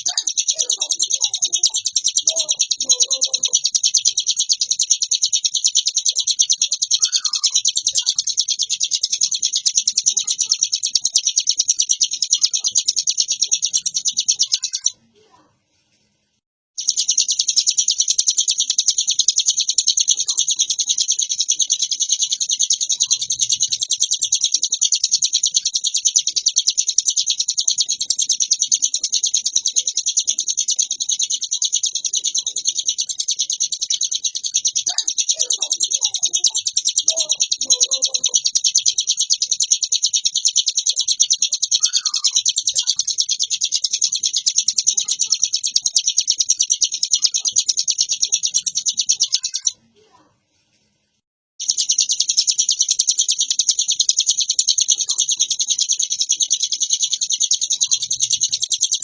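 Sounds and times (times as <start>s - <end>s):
songbird rapid high chirping: 0.0s - 15.3s, 16.8s - 50.2s, 51.6s - 59.0s.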